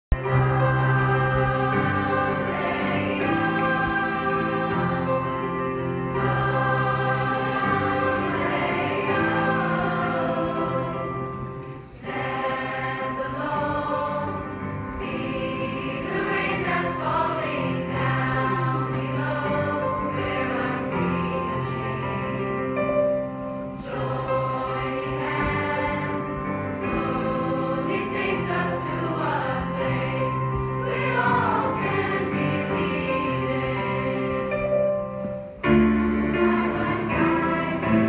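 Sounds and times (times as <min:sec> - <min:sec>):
mixed choir singing: 0:00.1 - 0:23.2, 0:23.8 - 0:38.0.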